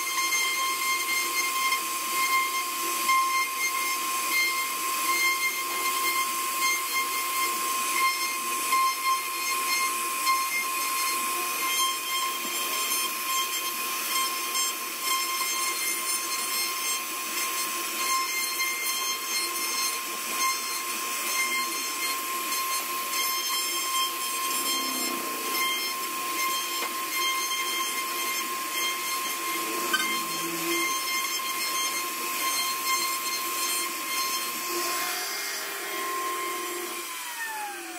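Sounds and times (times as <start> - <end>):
bit cutting into wood: 0.0 - 37.9
router spindle whining: 0.0 - 37.9.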